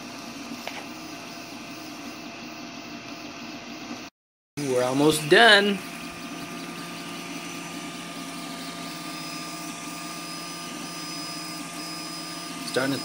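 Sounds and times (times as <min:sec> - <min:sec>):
three d printer fans and motors whirring: 0:00.0 - 0:13.0.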